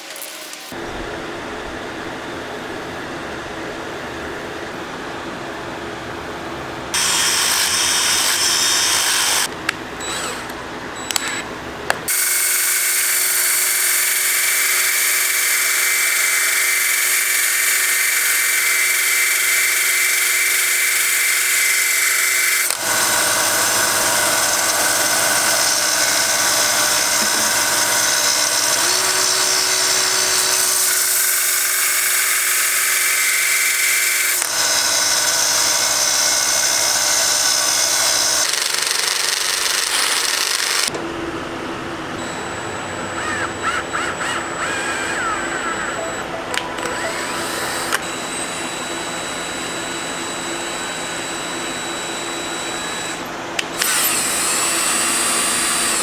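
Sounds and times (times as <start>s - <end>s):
electric power tool running: 6.8s - 56.0s.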